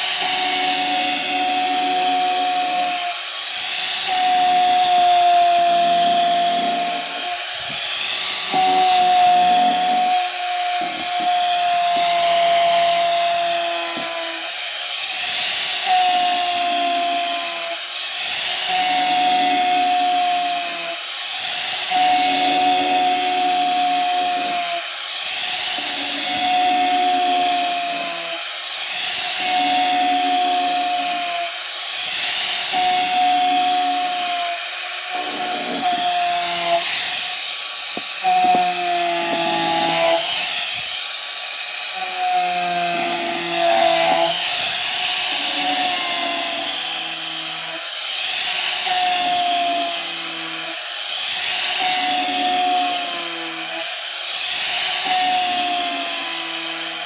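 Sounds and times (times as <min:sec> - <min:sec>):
angle grinder sanding wood: 0:00.0 - 0:57.0.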